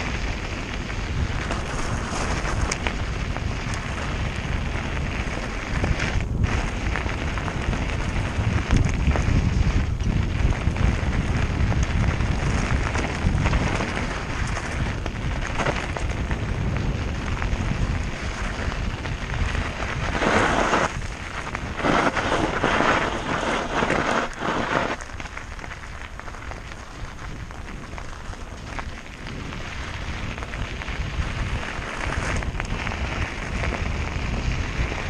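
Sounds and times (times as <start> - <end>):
bike tyres crunching over gravel: 0.0 - 35.0
wind rumbling on microphone: 0.0 - 35.0.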